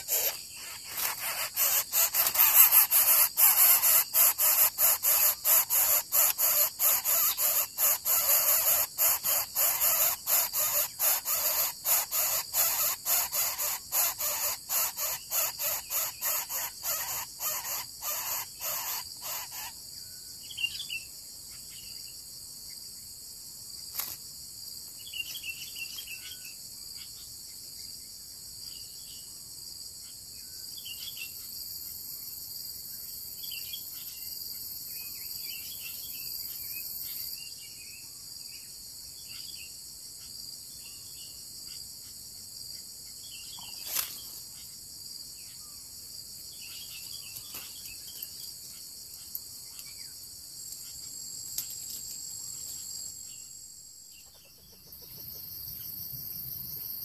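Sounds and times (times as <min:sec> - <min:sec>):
chorus of chirping insects: 0:00.0 - 0:57.0.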